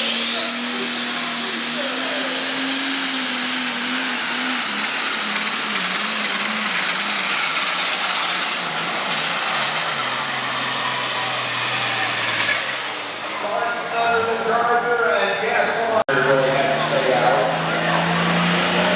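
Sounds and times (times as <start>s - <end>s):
diesel engine at full power: 0.0s - 18.9s
high turbo whine: 0.0s - 18.9s.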